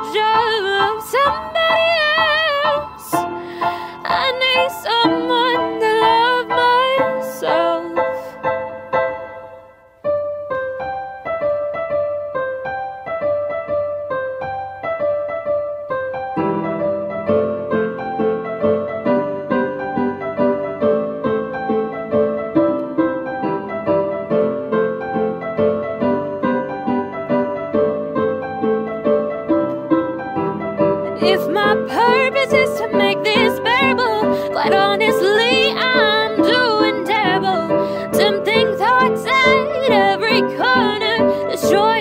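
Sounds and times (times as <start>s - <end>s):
piano-like keyboard notes: 0.0s - 42.0s.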